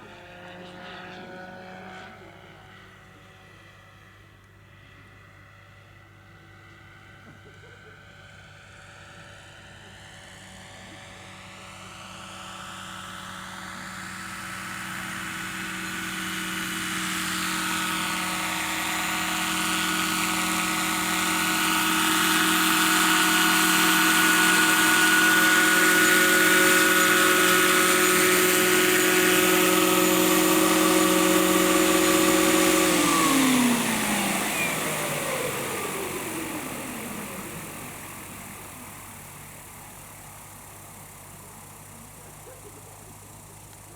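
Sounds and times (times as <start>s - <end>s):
model helicopter whine and rotor: 0.0s - 43.9s.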